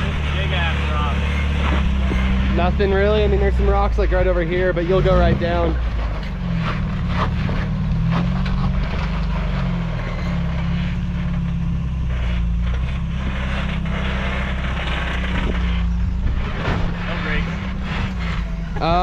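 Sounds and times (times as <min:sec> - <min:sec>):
truck engine running low: 0:00.0 - 0:19.0.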